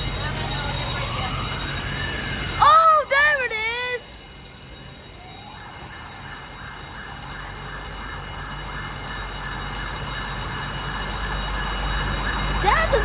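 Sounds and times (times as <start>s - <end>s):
fire engine siren wailing: 0.0s - 13.0s.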